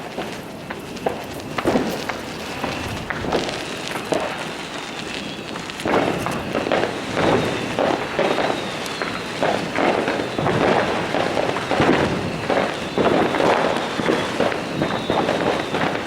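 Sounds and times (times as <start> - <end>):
fireworks and firecrackers banging: 0.0 - 16.0.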